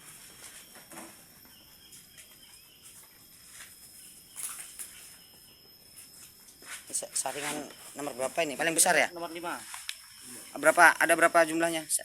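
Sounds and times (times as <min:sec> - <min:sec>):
high-pitched insect trilling: 0:00.0 - 0:12.0.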